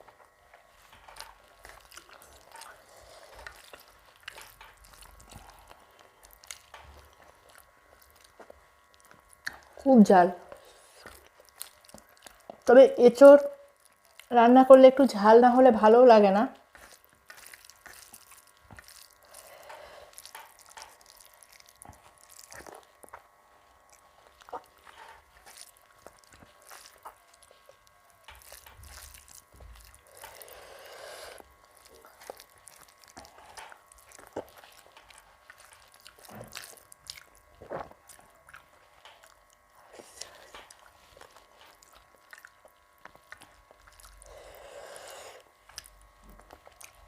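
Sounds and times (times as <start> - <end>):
soft chewing and mouth clicks: 0.0 - 14.4, 16.6 - 47.0.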